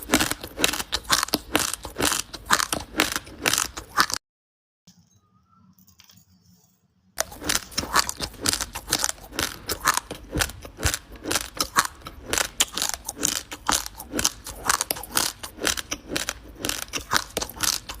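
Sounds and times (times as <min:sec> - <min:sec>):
dry rice being chewed: 0:00.0 - 0:04.2, 0:07.2 - 0:18.0.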